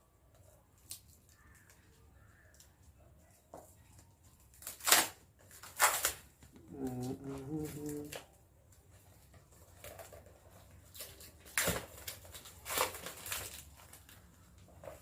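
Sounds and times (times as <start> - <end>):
plastic wrapping tearing and crinkling: 0.4 - 2.7, 3.8 - 15.0.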